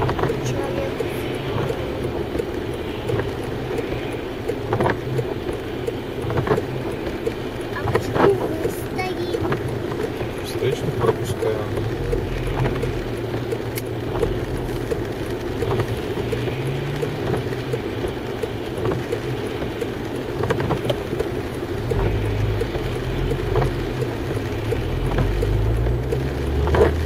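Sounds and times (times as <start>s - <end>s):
low engine hum: 0.0s - 27.0s
tyres hissing on wet road: 0.0s - 27.0s.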